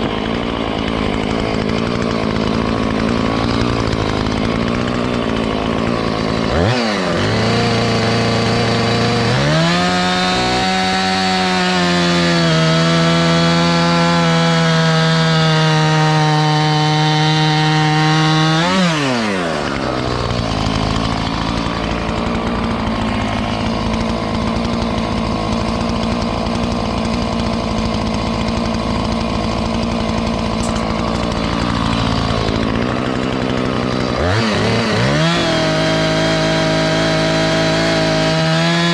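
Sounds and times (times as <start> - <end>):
chainsaw cutting into log: 0.0 - 38.9.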